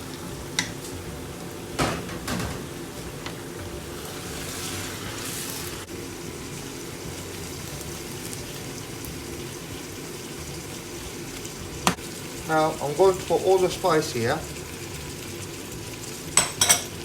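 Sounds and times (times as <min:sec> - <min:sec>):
chicken and onion sizzling in a pan: 0:00.0 - 0:17.0.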